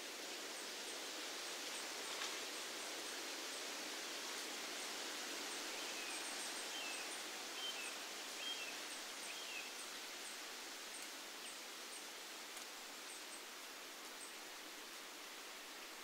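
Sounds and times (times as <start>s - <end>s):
wind rustling leaves: 0.0s - 16.0s.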